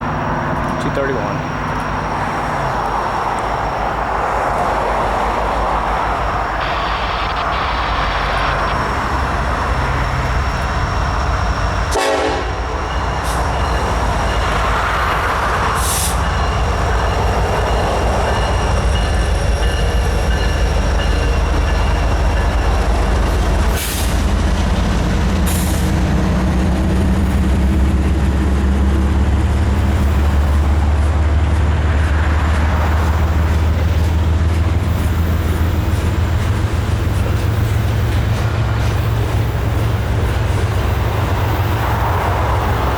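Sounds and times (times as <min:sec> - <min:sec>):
diesel locomotives rumbling: 0:00.0 - 0:42.9.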